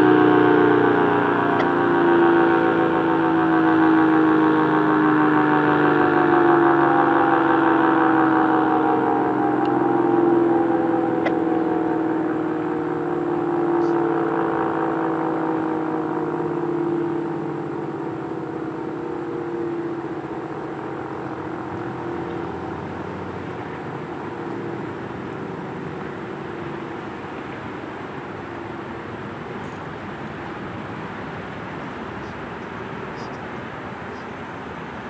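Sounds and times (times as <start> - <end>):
steady-tone warning siren: 0.0 - 35.0.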